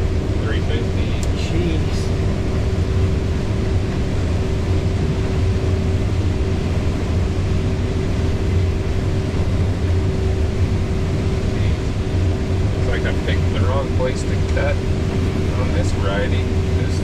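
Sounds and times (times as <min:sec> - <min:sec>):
combine harvester drone: 0:00.0 - 0:17.0.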